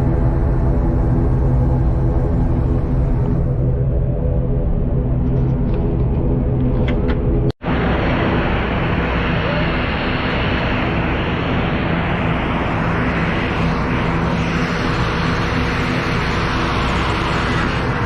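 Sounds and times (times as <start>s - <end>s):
aircraft engines running: 0.0s - 18.0s
constant low hum: 0.0s - 18.0s.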